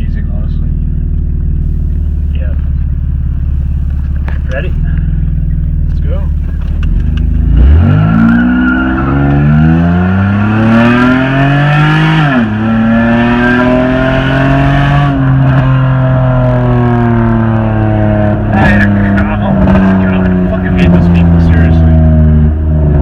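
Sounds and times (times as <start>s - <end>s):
loud car exhaust accelerating: 0.0s - 23.0s.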